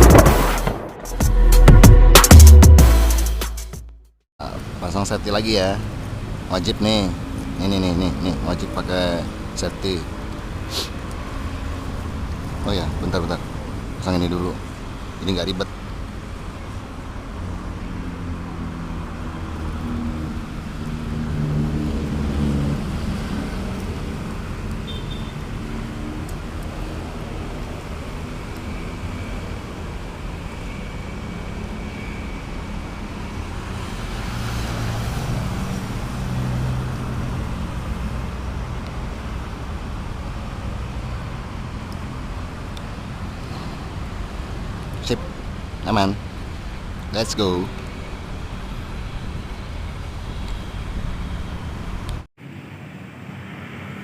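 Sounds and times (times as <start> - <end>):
vehicle engines passing: 4.4 - 54.0.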